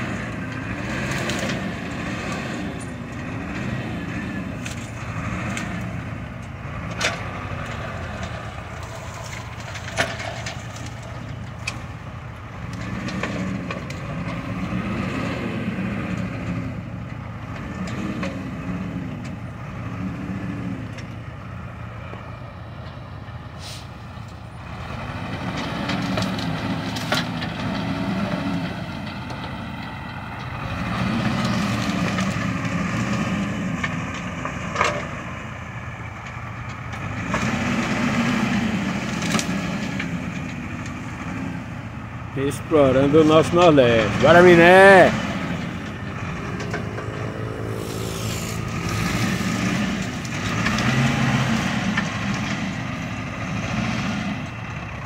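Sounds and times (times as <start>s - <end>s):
heavy vehicle engine revving: 0.0s - 55.0s.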